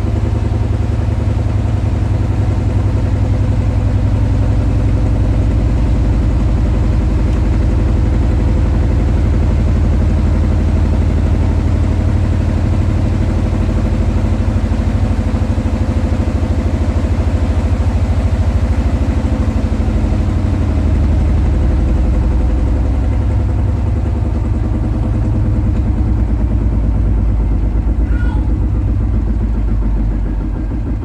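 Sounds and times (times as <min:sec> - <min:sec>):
washing machine pulsing rumble: 0:00.0 - 0:31.0.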